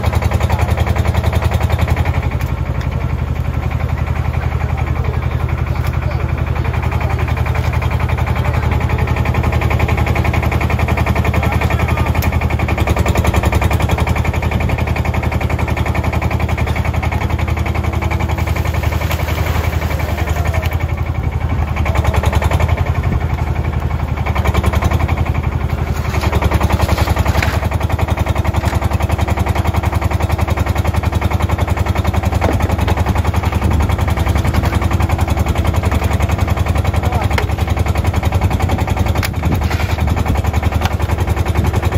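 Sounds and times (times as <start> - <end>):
large diesel engine chugging: 0.0 - 41.9.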